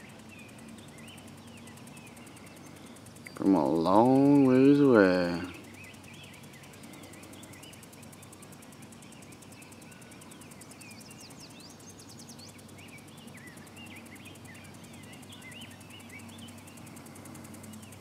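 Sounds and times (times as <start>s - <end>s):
bird trill: 0.0s - 18.0s
distant birds chirping: 0.0s - 18.0s
soft steady hiss: 0.0s - 18.0s.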